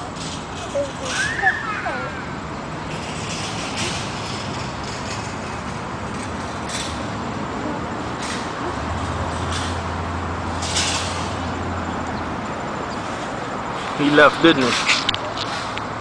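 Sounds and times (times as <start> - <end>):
heavy vehicle engine drone: 0.0 - 16.0
traffic rushing by: 0.0 - 16.0.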